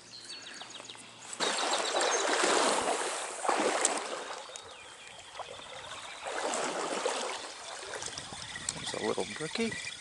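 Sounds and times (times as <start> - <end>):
stream water splashing: 1.4 - 9.8.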